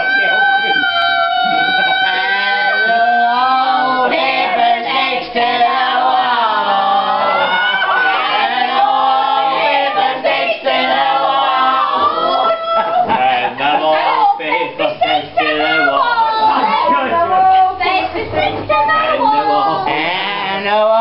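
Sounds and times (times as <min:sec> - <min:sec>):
group singing in helium voices: 0:00.0 - 0:21.0.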